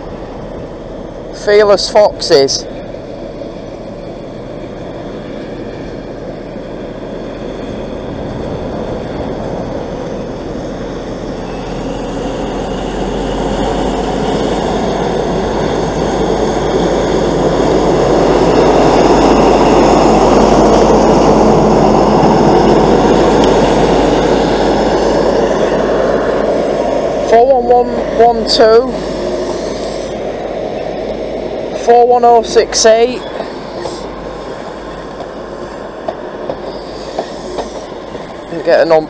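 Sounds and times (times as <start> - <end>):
train diesel engine working: 0.0 - 39.0.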